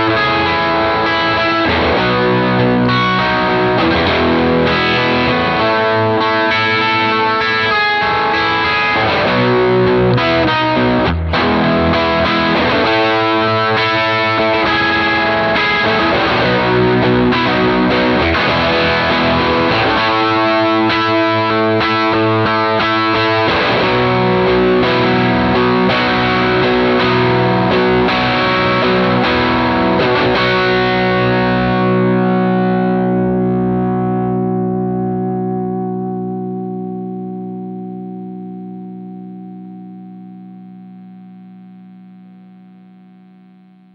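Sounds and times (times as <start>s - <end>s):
overdriven electric guitar: 0.0s - 43.9s.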